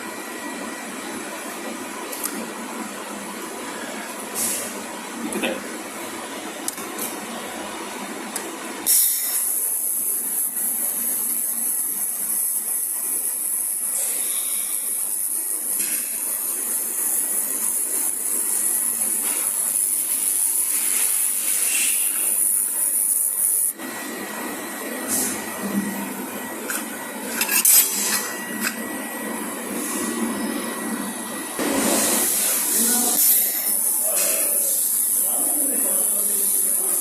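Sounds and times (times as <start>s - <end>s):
low steady machine noise: 0.0s - 37.0s.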